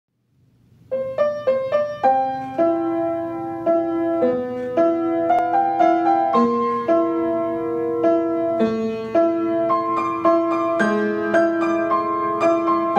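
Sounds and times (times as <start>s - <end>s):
piano playing: 0.6s - 12.9s.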